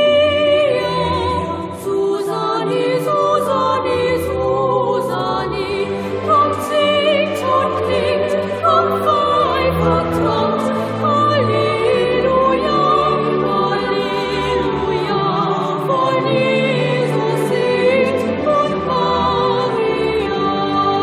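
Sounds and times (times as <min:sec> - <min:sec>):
choir singing with vibrato: 0:00.0 - 0:21.0.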